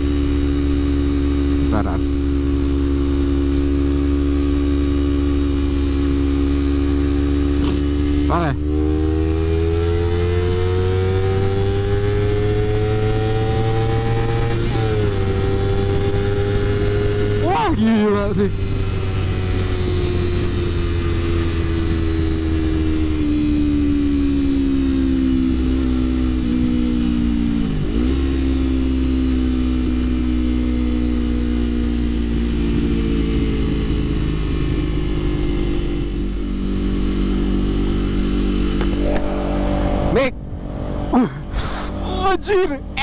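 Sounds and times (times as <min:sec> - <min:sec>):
motorcycle engine under way: 0:00.0 - 0:41.5
low wind rumble: 0:00.0 - 0:43.0.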